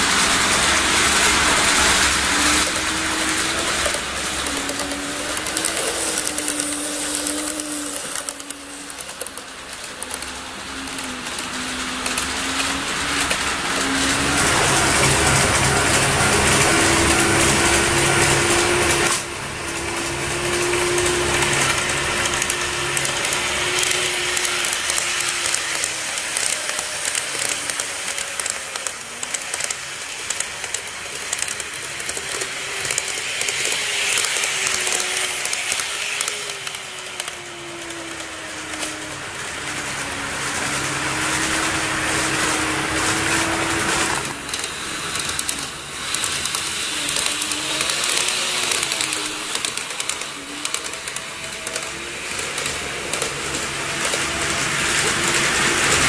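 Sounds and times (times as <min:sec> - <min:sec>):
wheels rumbling on rail: 0:00.0 - 0:56.0
electric motor whine: 0:01.1 - 0:56.0.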